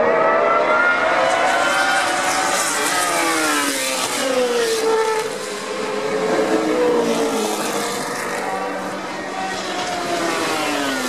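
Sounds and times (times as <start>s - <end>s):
racing car engines passing: 0.0s - 11.0s.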